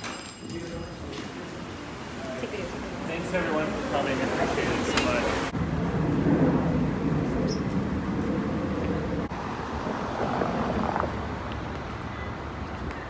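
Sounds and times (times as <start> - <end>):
city traffic noise: 0.0 - 13.0.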